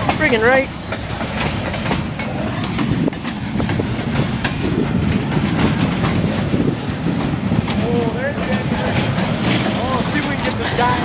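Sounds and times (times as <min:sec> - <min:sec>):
freight train rumbling past: 0:00.0 - 0:11.0
train wheels clicking: 0:00.0 - 0:11.0.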